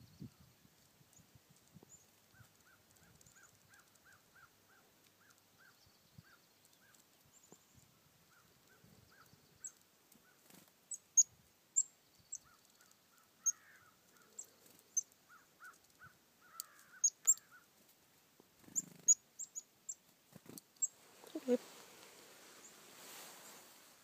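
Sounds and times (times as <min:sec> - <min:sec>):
chickadees chipping: 0:01.5 - 0:18.0, 0:18.6 - 0:23.9.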